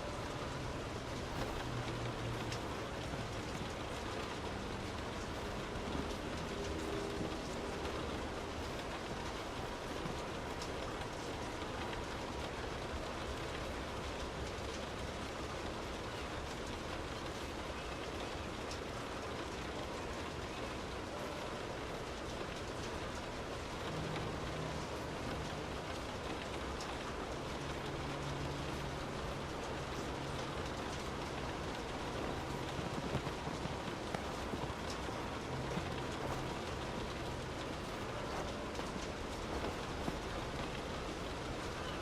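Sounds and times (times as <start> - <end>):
faint low hum: 0.0 - 42.0
raindrop ticks: 0.0 - 42.0
steady rain hiss: 0.0 - 42.0.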